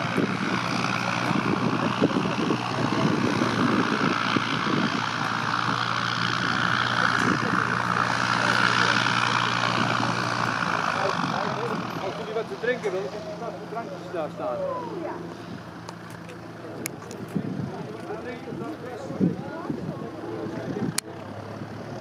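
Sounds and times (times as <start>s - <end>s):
light aircraft propeller hum: 0.0s - 22.0s.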